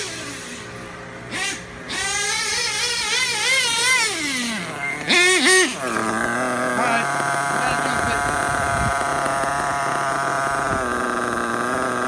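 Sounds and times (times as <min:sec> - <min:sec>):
rc car engine revving: 0:00.0 - 0:00.6, 0:01.3 - 0:12.0.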